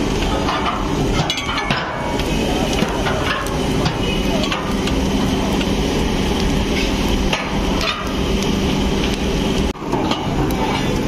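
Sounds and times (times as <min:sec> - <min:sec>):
low machine hum: 0:00.0 - 0:11.0
steam hiss: 0:00.0 - 0:11.0.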